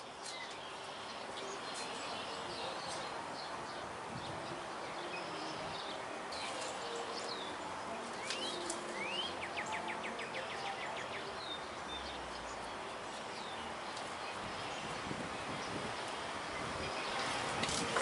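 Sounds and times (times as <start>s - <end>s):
birds chirping: 0.0s - 18.0s
outdoor background hiss: 0.0s - 18.0s.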